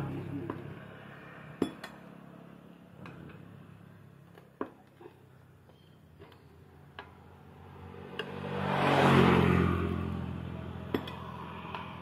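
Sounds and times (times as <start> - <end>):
vehicle engine: 0.0 - 12.0.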